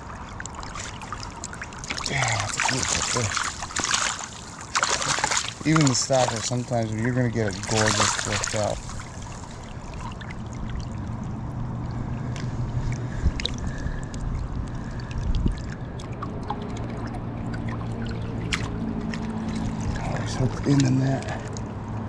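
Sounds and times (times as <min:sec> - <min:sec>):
river water running and lapping: 0:00.0 - 0:22.0
steady low rumble: 0:00.0 - 0:22.0.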